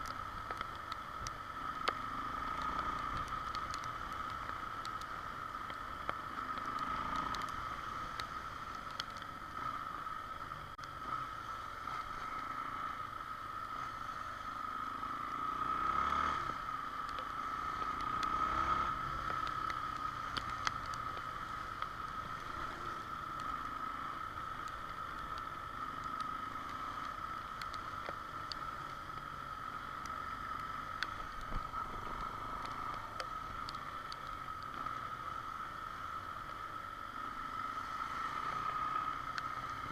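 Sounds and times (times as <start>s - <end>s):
small ticks: 0.0s - 39.9s.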